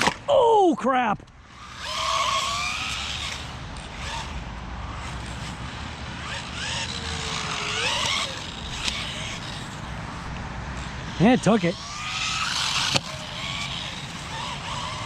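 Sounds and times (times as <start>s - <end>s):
electric motor whining: 1.3s - 15.0s.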